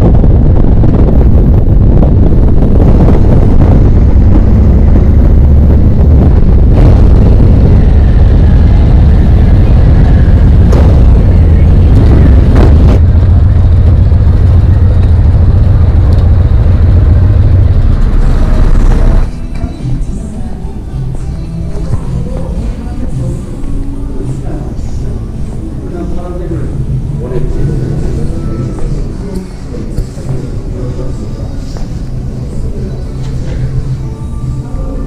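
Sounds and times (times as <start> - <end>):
motorcycle low rumble: 0.0 - 31.2.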